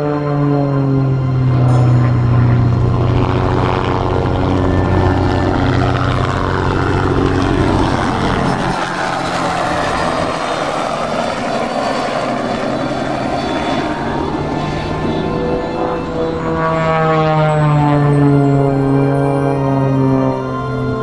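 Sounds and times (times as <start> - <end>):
propeller airplane engine drone: 0.0 - 21.0.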